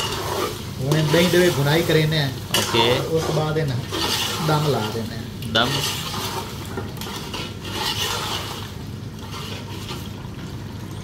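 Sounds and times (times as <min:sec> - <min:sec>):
metal ladle scraping pot: 0:00.0 - 0:10.1.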